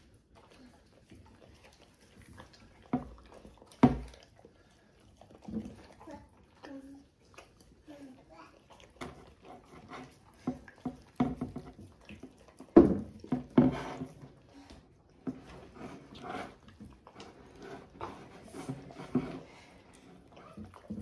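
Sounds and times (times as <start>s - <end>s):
dogs lapping and chewing: 0.0s - 21.0s.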